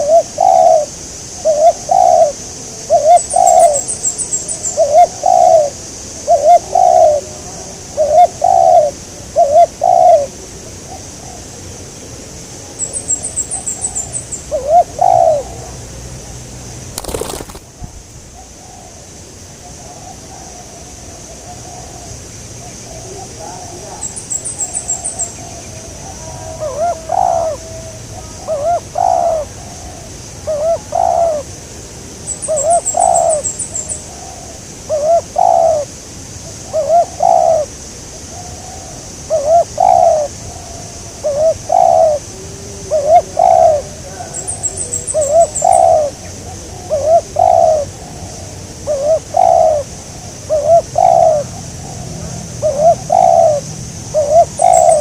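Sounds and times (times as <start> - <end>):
dove cooing: 0.0 - 11.6, 12.8 - 15.9, 17.0 - 17.6, 22.9 - 31.5, 32.4 - 35.9, 36.6 - 37.7, 38.3 - 55.0.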